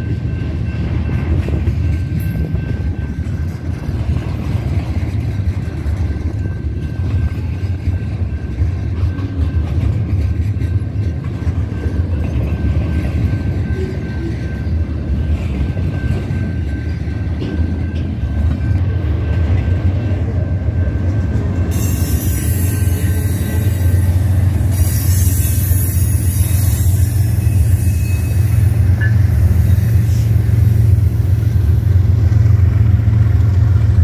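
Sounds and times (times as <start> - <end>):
freight train rumbling on rails: 0.0 - 34.0.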